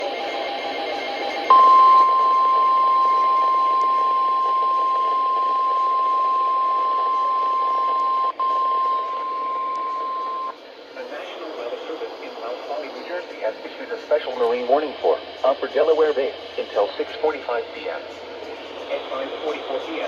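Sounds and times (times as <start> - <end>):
radio hiss: 0.9 - 20.0.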